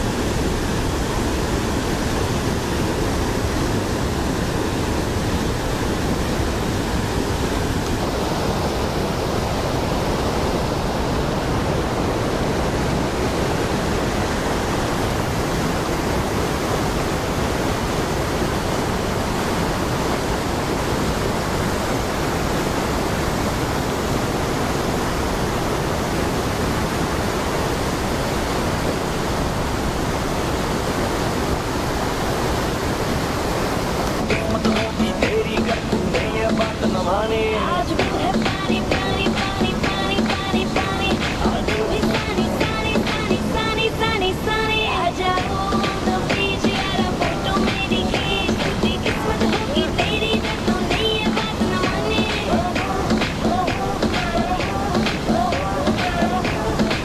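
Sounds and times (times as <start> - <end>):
river rapids rushing over boulders: 0.0 - 57.0.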